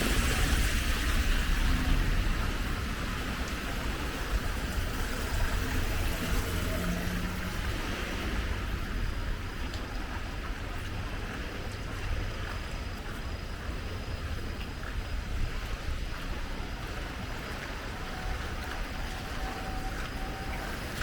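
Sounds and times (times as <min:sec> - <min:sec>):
constant low rumble: 0:00.0 - 0:21.0
rain falling: 0:00.0 - 0:21.0.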